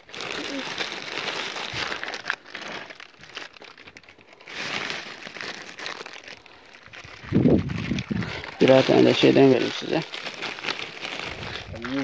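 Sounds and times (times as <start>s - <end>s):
plastic bag and foil crinkling: 0.0s - 12.0s.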